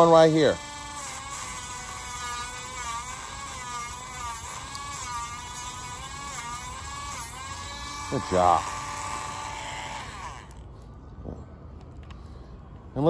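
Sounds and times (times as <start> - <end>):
rotary tool grinding toenail: 0.0 - 10.6.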